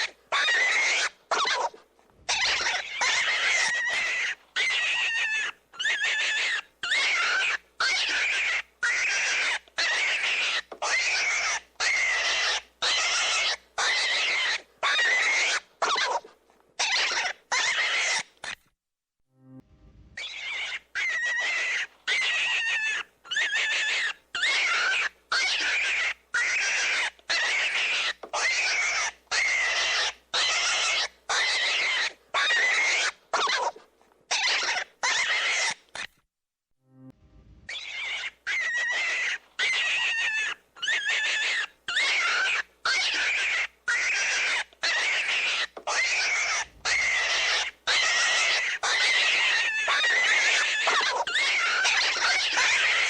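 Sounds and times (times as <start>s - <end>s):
rabbit squealing: 0.0s - 18.7s, 20.2s - 36.2s, 37.7s - 53.0s.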